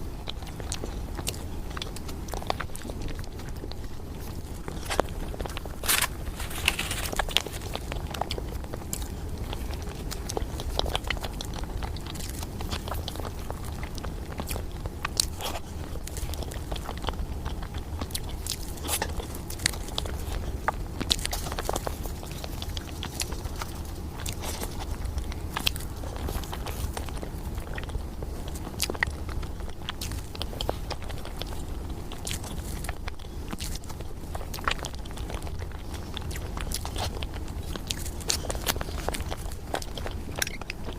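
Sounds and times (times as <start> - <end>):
chewing and biting: 0.0 - 40.9
steady low hum: 0.0 - 40.9.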